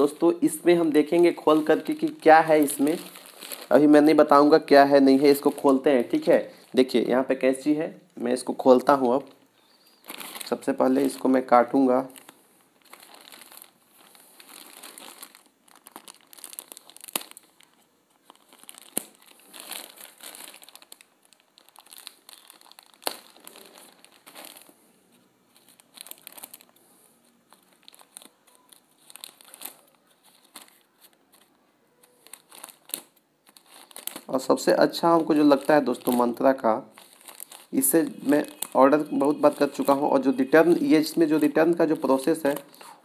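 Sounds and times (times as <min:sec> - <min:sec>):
plastic bag crinkling: 0:00.0 - 0:07.4, 0:08.4 - 0:24.8, 0:25.5 - 0:43.0.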